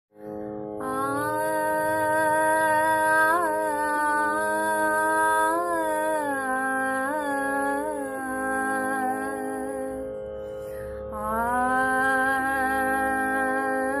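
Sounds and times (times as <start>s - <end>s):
steady drone: 0.5s - 14.0s
woman singing: 0.8s - 10.2s, 11.1s - 14.0s.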